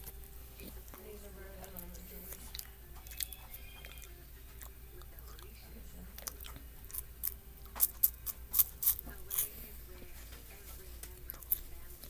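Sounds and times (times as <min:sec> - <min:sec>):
wafer cookie crunching: 0:00.0 - 0:12.0.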